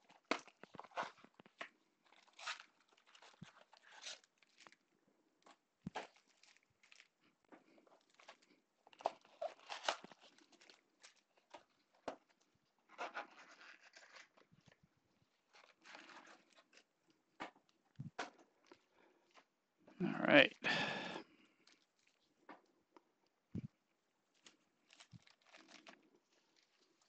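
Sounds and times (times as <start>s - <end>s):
cardboard box and foil packs rustling: 0.0s - 19.5s, 24.3s - 27.0s.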